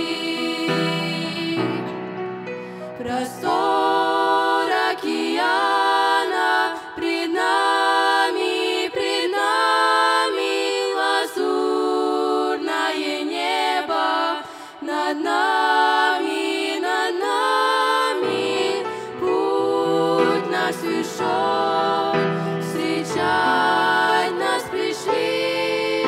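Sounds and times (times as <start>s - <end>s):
women singing in close harmony: 0.0s - 2.0s, 3.0s - 26.0s.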